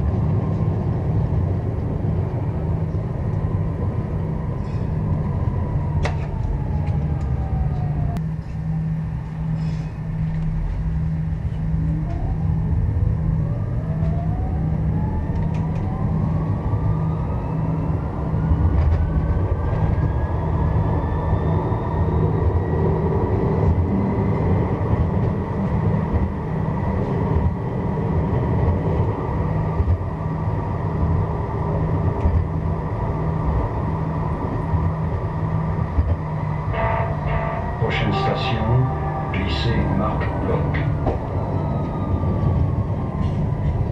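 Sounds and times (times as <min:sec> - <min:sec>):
electric tram motor whine: 0:00.0 - 0:43.9
wheels rumbling on rails: 0:00.0 - 0:43.9.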